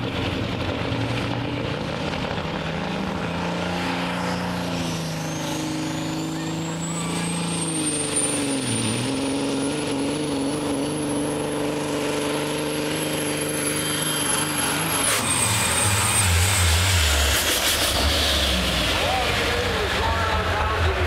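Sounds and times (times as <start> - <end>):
deep rumbling truck engine: 0.0 - 21.0
truck diesel engine under load: 0.0 - 21.0.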